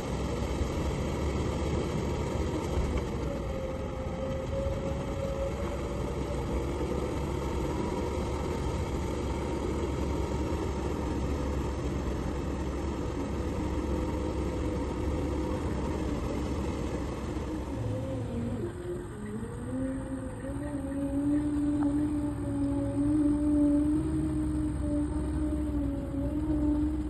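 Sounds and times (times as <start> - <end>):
vehicle engine deep rumble: 0.0 - 27.0.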